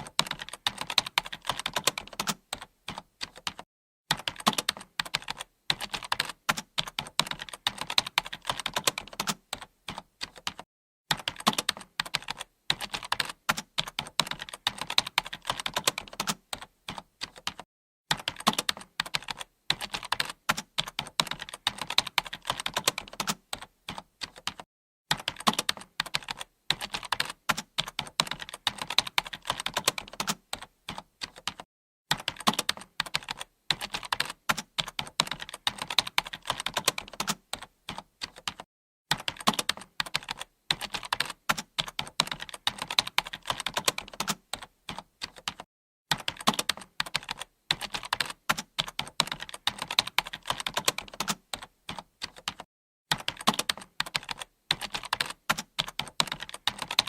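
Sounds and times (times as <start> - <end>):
computer keyboard typing: 0.0 - 57.0.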